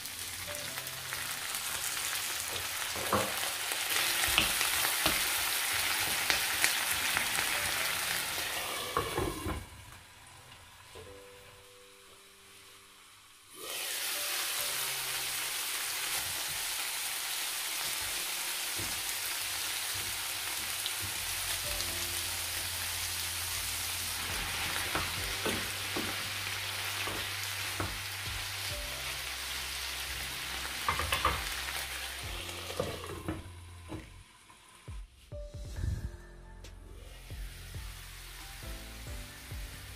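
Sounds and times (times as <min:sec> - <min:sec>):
cauliflower sizzling in a frying pan: 0:00.0 - 0:33.6, 0:37.1 - 0:39.9.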